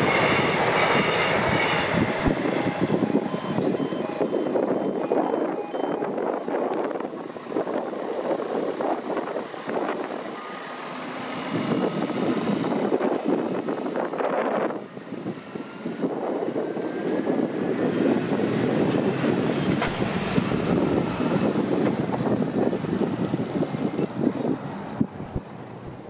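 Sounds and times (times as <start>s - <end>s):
train running past: 0.0s - 26.0s
wind buffeting microphone: 0.0s - 26.0s.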